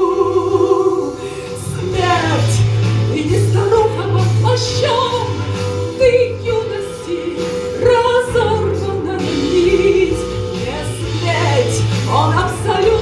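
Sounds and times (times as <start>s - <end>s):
steady bass line: 0.0s - 13.0s
woman singing slow song: 0.0s - 13.0s.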